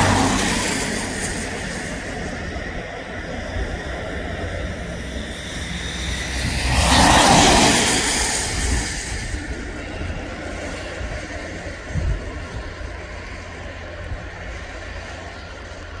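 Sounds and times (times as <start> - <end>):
jet engines running: 0.0 - 16.0
low rumble: 0.0 - 16.0.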